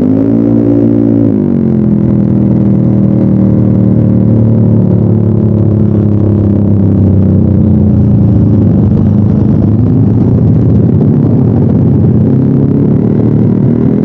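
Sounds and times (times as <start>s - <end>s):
scooter exhaust note: 0.0s - 14.0s.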